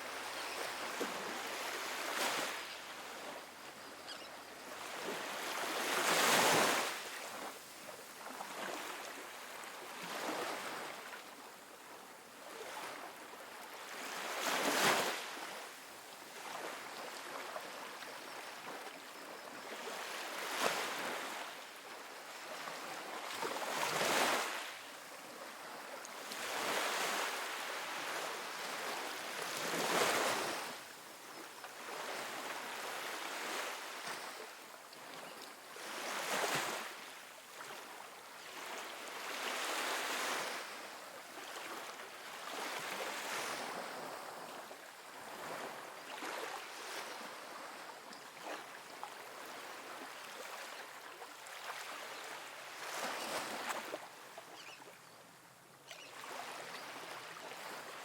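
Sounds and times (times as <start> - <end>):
ocean waves on a beach: 0.0 - 58.0.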